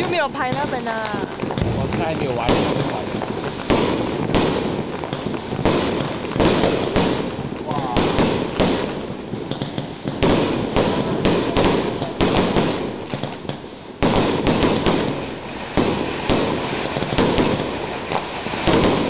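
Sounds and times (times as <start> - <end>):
fireworks bangs: 0.0 - 19.0
rumble of explosions: 0.0 - 19.0.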